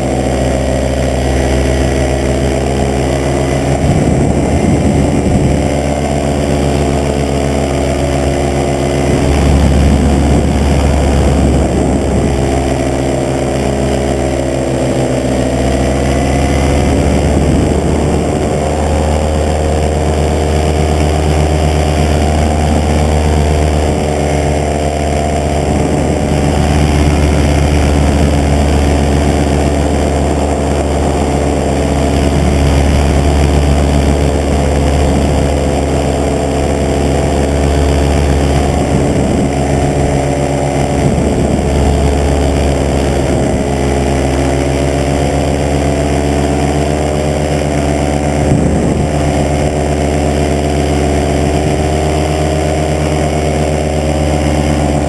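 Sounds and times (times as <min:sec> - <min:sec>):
paramotor engine drone: 0:00.0 - 0:55.0.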